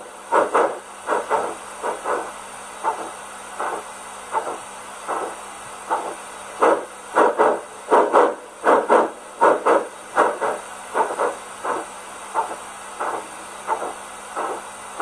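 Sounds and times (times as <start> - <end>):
steam locomotive chuffing from speaker: 0.0 - 15.0.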